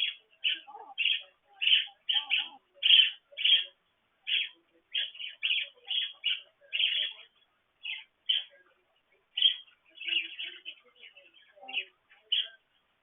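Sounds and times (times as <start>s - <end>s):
budgerigars chirping: 0.0s - 8.7s, 9.3s - 12.6s.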